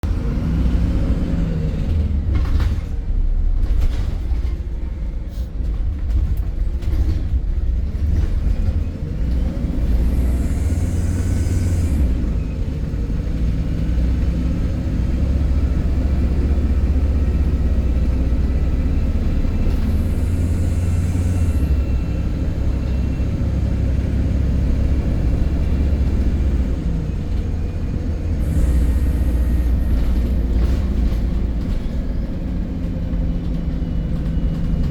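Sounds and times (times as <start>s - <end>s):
bus engine and road drone: 0.0s - 34.9s.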